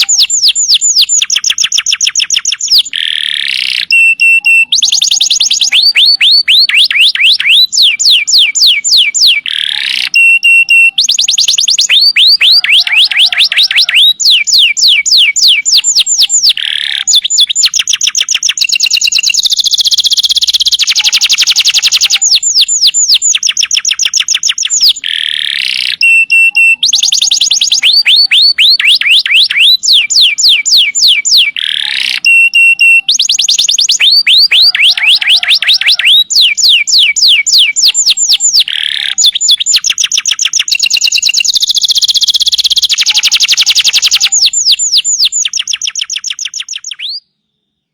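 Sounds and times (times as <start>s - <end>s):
canary singing trills: 0.0s - 47.3s.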